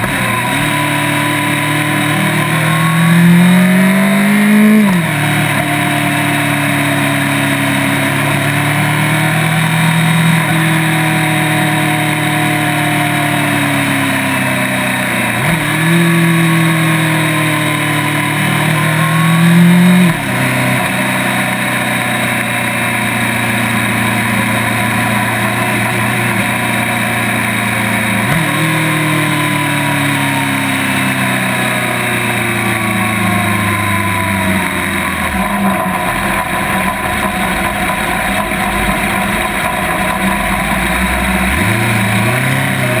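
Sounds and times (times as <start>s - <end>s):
motorcycle engine: 0.0s - 43.0s.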